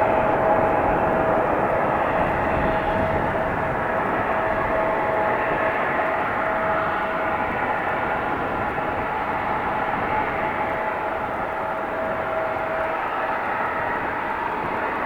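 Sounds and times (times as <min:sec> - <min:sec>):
airliner engines whining: 0:00.0 - 0:15.0.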